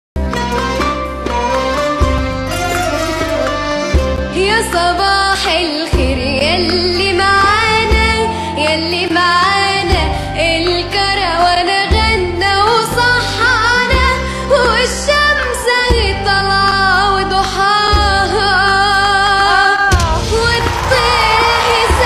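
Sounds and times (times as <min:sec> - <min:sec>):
music with sustained bass: 0:00.2 - 0:22.0.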